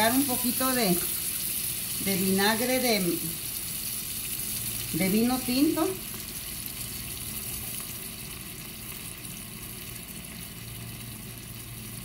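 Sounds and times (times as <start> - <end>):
onion sizzling in skillet: 0.0 - 12.0.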